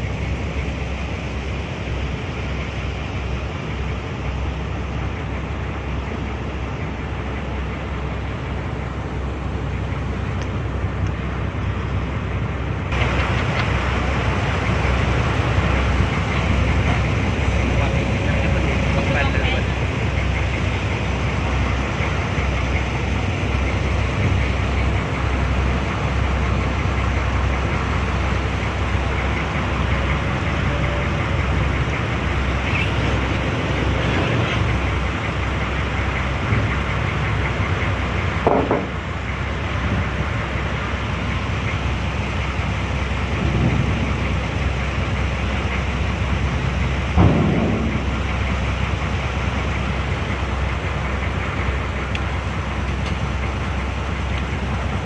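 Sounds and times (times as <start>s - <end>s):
ferry engine running: 0.0s - 55.0s.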